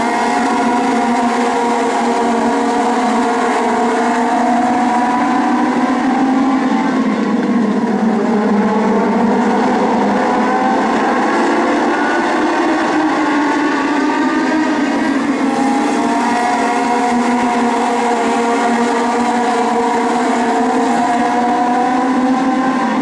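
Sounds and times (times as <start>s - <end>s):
race car engines roaring: 0.0s - 23.0s.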